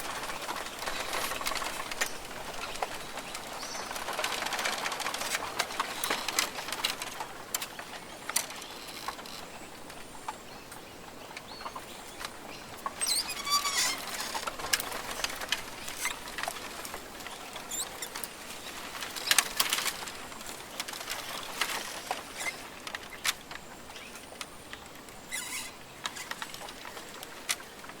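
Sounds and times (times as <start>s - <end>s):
sharp clicks and crackles: 0.0s - 10.8s, 11.4s - 28.0s.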